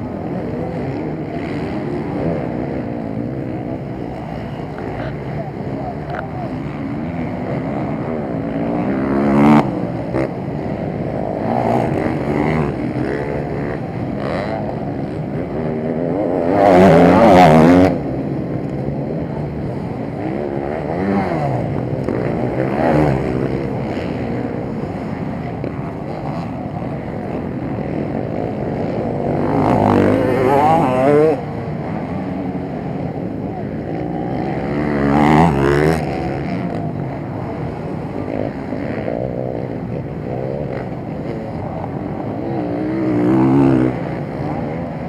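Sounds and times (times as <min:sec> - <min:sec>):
motocross motorcycles revving: 0:00.0 - 0:45.0
motorcycle passing close: 0:00.0 - 0:45.0.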